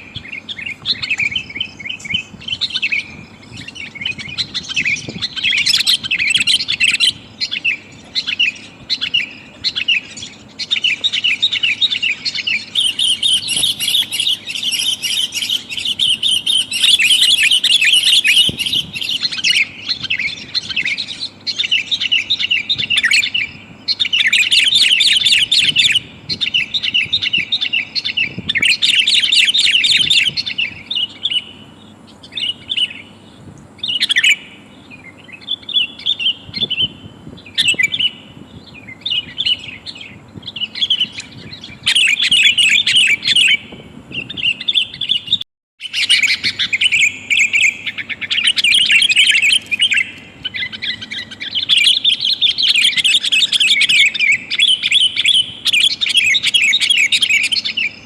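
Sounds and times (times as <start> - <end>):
bulbul chattering calls: 0.0 - 58.0.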